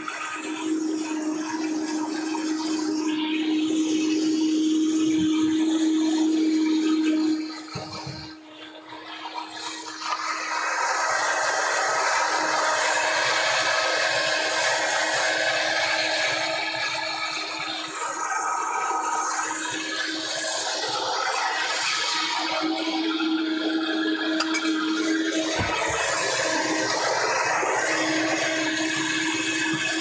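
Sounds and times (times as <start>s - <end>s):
blender grinding: 0.0s - 30.0s.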